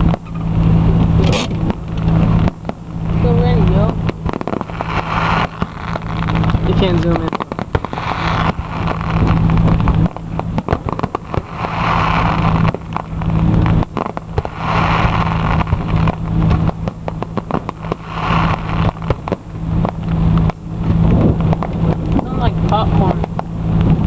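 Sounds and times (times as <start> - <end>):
fireworks crackling pops: 0.0 - 24.0
fireworks hiss: 0.0 - 24.0
steady low hum: 0.0 - 24.0.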